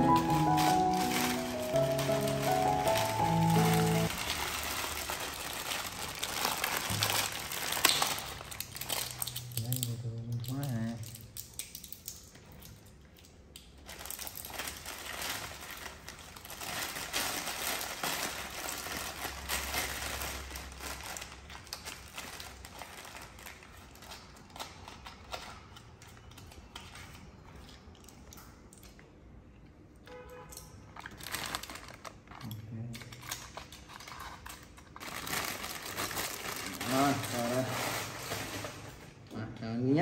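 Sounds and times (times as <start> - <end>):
plastic bag crinkling: 0.0 - 12.1, 13.5 - 25.8, 31.0 - 39.2.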